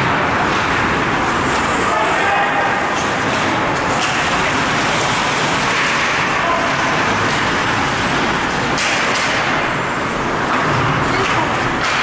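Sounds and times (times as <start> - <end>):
ice hockey game din: 0.0 - 12.0.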